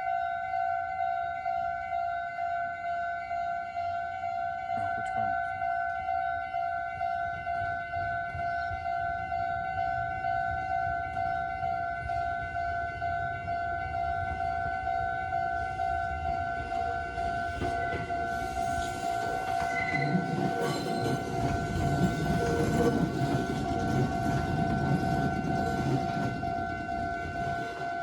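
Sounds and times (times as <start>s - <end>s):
level crossing warning bell: 0.0s - 28.0s
approaching train: 3.2s - 28.0s.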